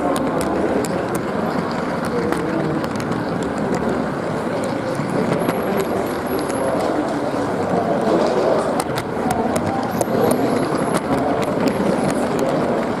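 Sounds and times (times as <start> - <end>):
sharp clicks from wheels and track: 0.0 - 13.0.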